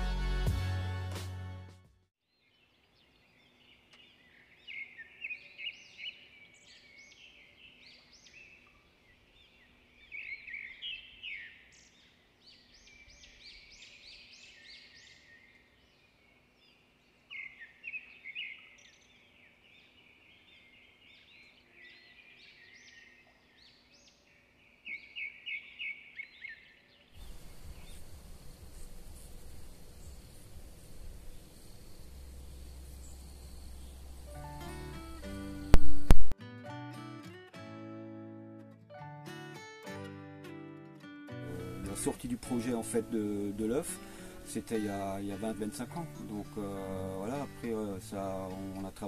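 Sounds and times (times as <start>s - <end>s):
birds chirping and trilling: 2.2s - 35.8s, 41.5s - 49.0s
steady outdoor hiss: 2.4s - 36.3s, 41.5s - 49.0s.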